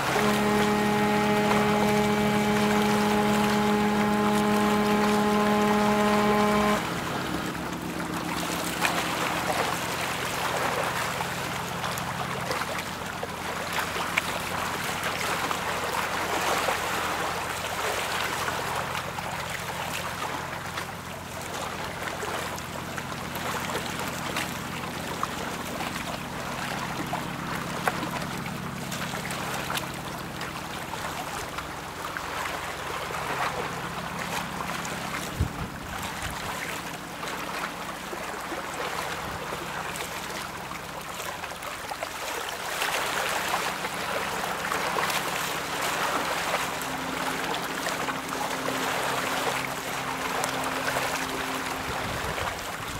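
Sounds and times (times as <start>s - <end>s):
bow wave rushing and splashing: 0.0s - 20.4s, 23.3s - 52.9s
low hum from ship: 0.0s - 52.9s.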